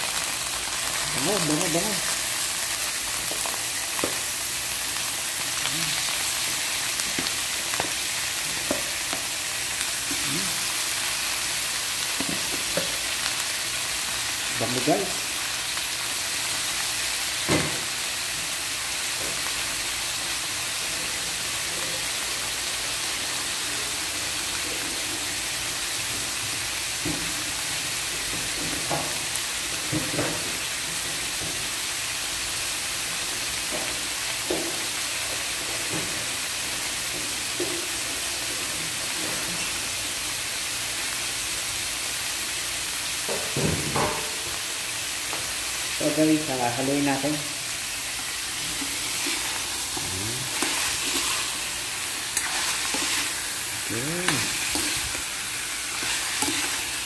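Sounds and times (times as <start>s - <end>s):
meat sizzling in oil: 0.0s - 57.0s.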